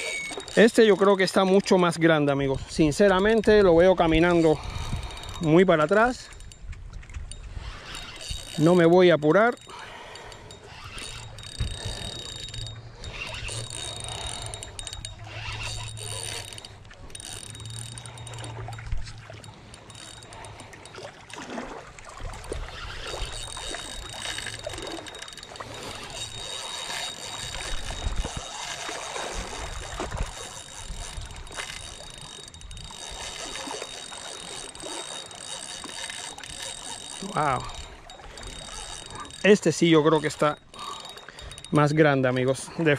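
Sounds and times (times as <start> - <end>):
fishing reel gears whirring: 0.0 - 42.9
reel mechanism clicking: 0.0 - 42.9
wind and water rushing: 0.0 - 42.9.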